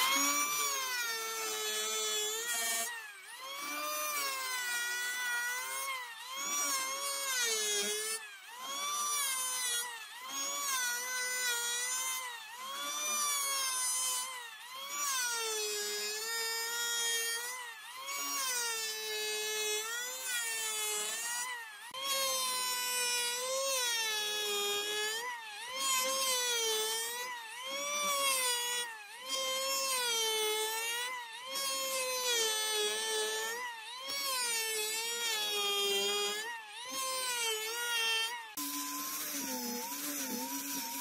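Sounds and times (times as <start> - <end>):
electric planer cutting wood: 0.0 - 41.0.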